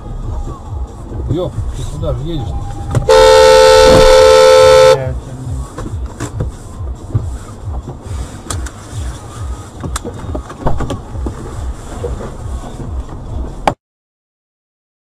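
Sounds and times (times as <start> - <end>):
car cabin rumble: 0.0 - 13.8.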